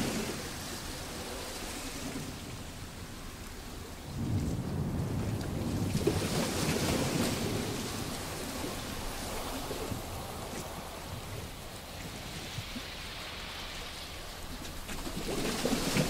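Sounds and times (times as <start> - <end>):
waves washing over rocky beach: 0.0 - 16.0.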